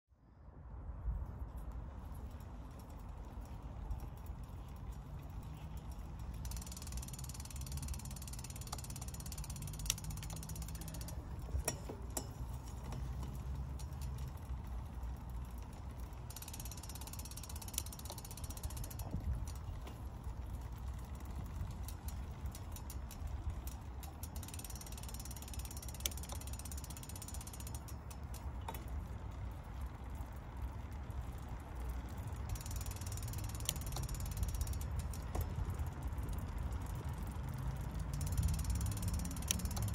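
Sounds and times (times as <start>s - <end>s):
bicycle chain humming: 0.2s - 39.9s
high ratcheting buzz: 3.8s - 20.0s, 20.6s - 28.6s, 31.8s - 39.9s.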